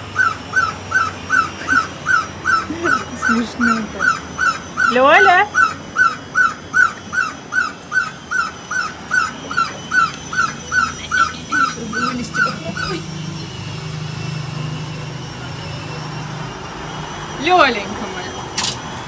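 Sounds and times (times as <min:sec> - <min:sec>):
pet bird calling: 0:00.1 - 0:16.2.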